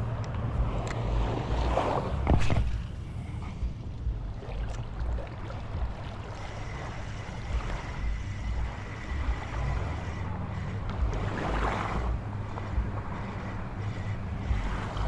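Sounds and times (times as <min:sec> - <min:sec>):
wind buffeting microphone: 0:00.0 - 0:15.0
surf washing on shore: 0:00.6 - 0:15.0.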